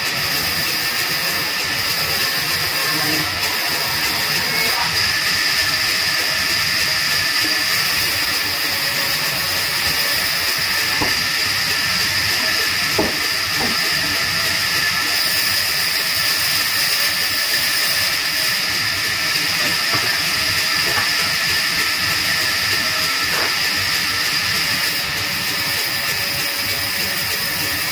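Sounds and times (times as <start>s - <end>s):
band saw cutting wood: 0.0s - 27.9s.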